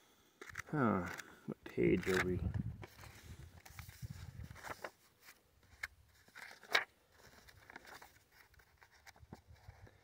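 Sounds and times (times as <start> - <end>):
book pages turning: 0.4 - 10.0.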